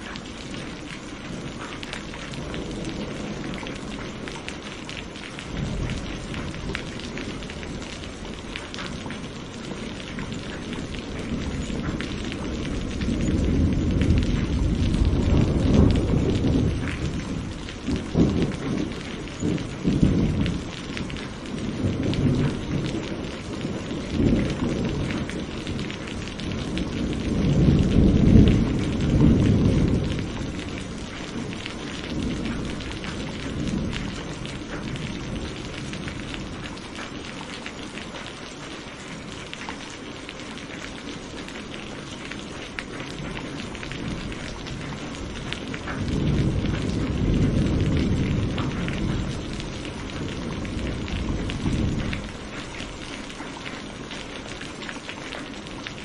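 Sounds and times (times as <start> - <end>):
steady rain falling: 0.0 - 56.0
thunder rumbling: 0.0 - 56.0.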